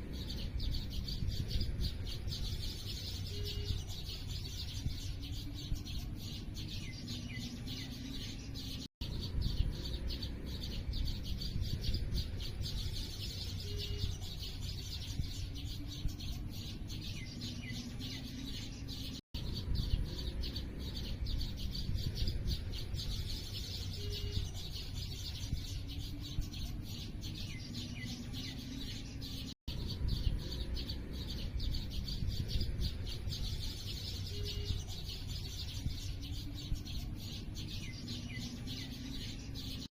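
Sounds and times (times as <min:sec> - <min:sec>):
low rumble of wind: 0:00.0 - 0:39.8
small birds chirping: 0:00.0 - 0:39.9.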